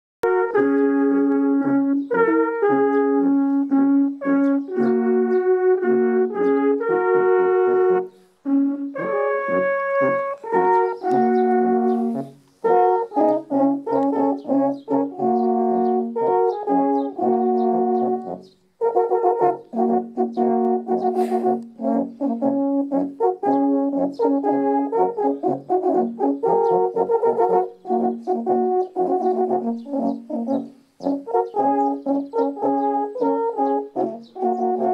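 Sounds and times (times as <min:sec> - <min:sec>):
alphorns playing in harmony: 0:00.2 - 0:34.9.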